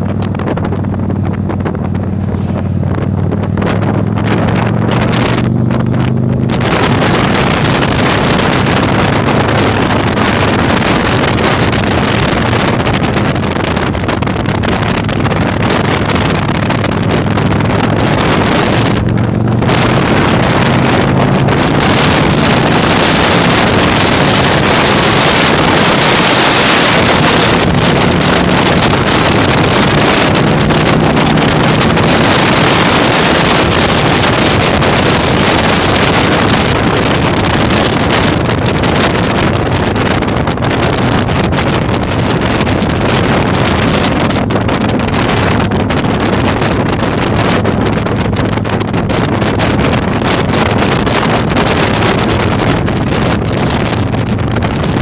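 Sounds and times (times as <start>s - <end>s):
heavy wind on microphone: 0.0s - 55.0s
motorcycle engine running: 0.0s - 55.0s.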